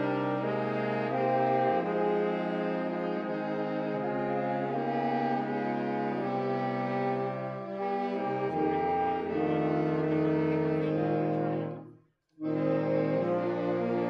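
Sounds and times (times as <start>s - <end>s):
saxophone quintet playing chords: 0.0s - 14.0s.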